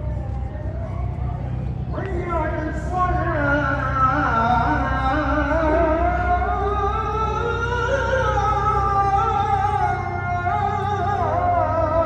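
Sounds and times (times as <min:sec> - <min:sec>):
low drone: 0:00.0 - 0:12.0.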